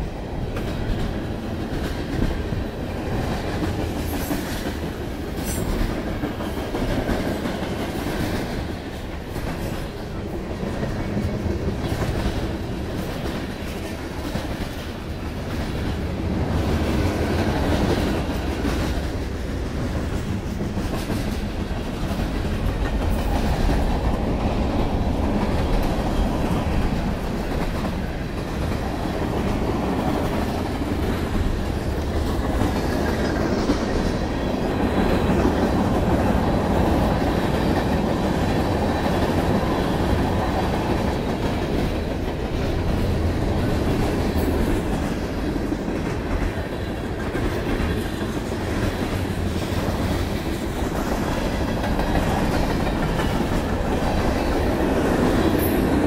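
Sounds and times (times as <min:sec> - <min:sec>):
freight train wheels rumbling: 0:00.0 - 0:56.0
train wheel clicks: 0:00.4 - 0:56.0.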